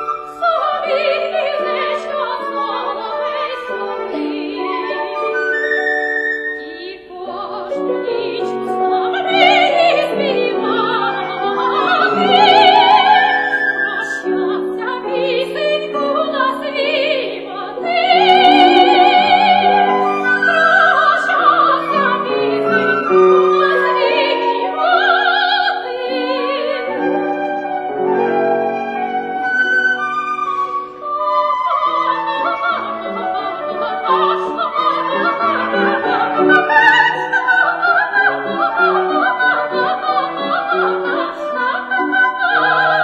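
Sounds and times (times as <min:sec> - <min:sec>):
instrumental accompaniment: 0:00.0 - 0:43.0
soprano singing opera: 0:00.0 - 0:43.0.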